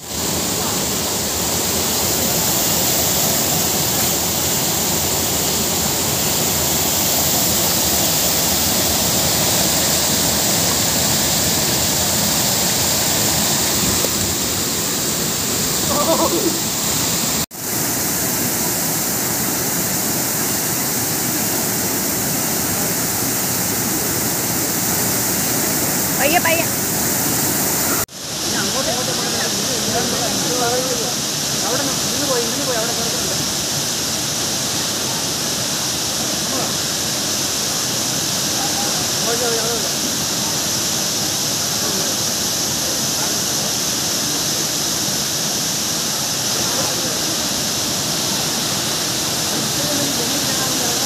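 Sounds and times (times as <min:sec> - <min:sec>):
waterfall pouring into pool: 0:00.0 - 0:51.0.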